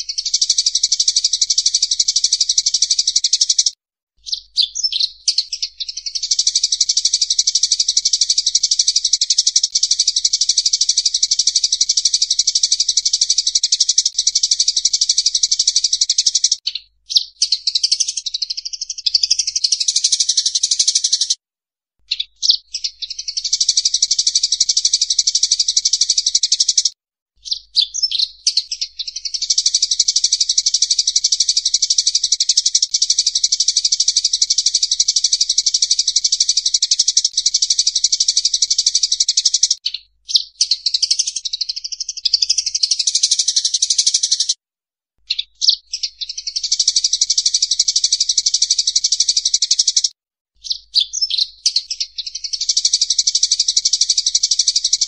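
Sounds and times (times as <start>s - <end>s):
sparrows chattering: 0.0s - 21.4s, 22.1s - 44.6s, 45.3s - 55.0s.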